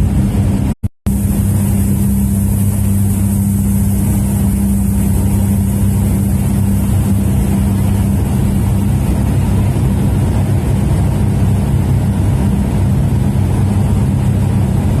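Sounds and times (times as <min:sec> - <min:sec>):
plane engine and propeller drone: 0:00.0 - 0:15.0.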